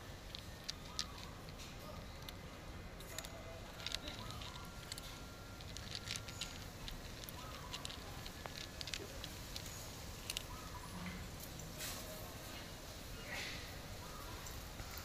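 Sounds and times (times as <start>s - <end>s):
cats chewing dry kibble: 0.0s - 13.0s.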